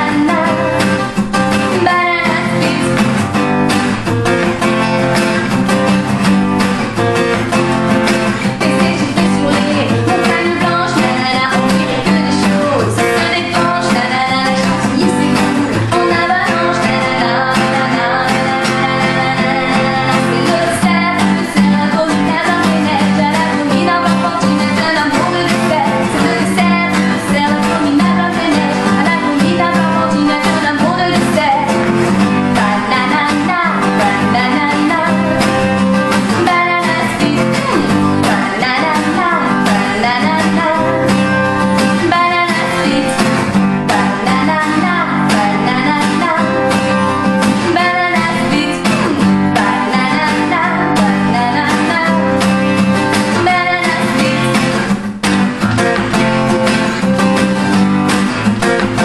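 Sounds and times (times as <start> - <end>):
woman singing: 0.0 - 55.0
acoustic guitar strumming: 0.0 - 59.0.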